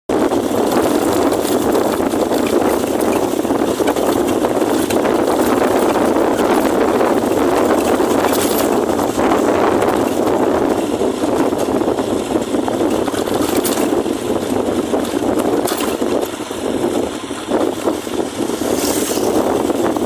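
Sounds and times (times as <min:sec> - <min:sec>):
car driving on wet road: 0:00.1 - 0:20.0.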